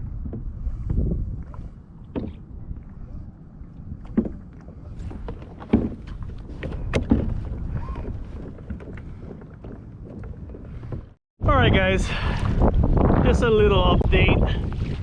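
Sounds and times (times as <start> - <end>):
water slapping against hull: 0.0 - 11.2, 14.1 - 15.0
wind buffeting microphone: 0.0 - 15.0.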